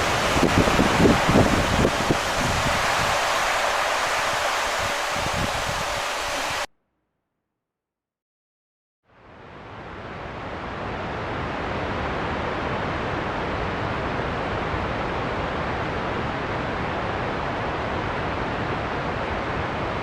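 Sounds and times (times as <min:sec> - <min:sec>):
heavy rain and wind rushing: 0:00.0 - 0:06.7, 0:09.7 - 0:20.0.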